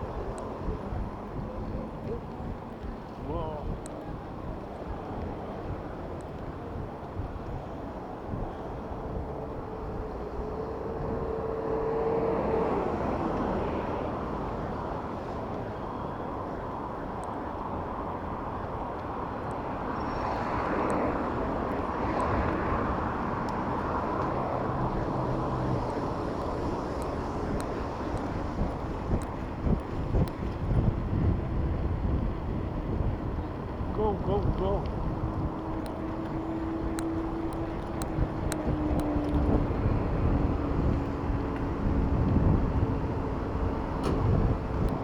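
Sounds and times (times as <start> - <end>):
passing motor traffic: 0.0 - 45.0.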